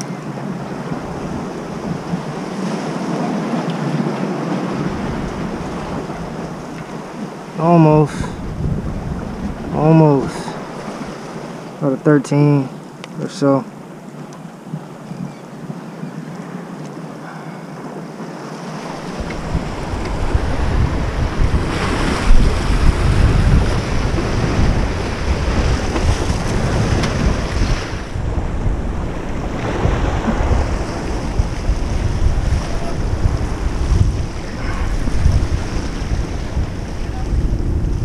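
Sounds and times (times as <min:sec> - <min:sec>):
wind buffeting microphone: 0:00.0 - 0:11.8, 0:18.8 - 0:38.0
surf washing against rocks: 0:00.0 - 0:38.0.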